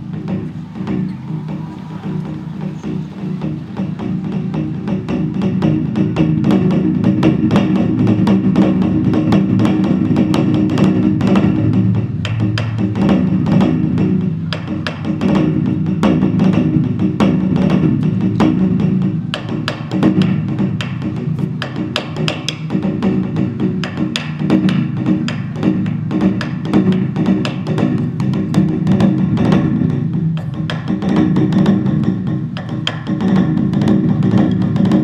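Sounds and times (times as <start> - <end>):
traditional drum music: 0.0 - 35.0.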